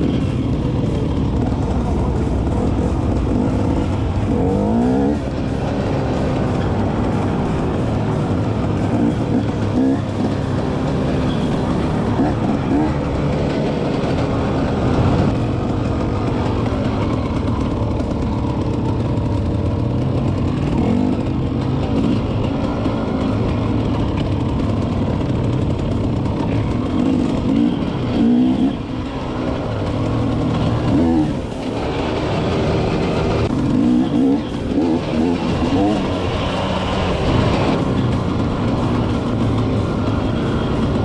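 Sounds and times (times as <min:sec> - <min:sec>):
motorbike engine running: 0:00.0 - 0:41.0.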